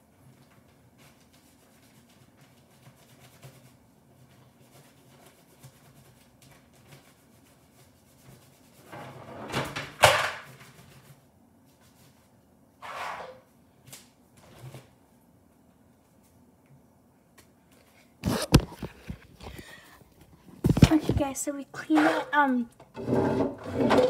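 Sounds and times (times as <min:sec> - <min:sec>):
faint room hum: 0:00.0 - 0:24.0.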